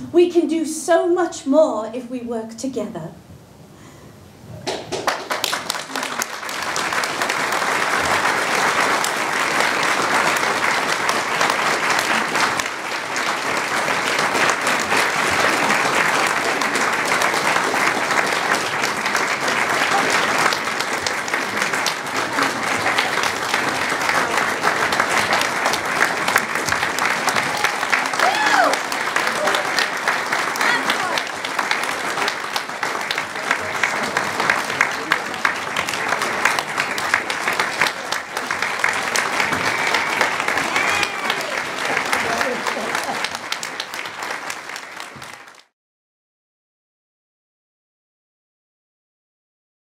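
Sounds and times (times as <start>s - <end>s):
audience applauding: 4.6s - 45.7s.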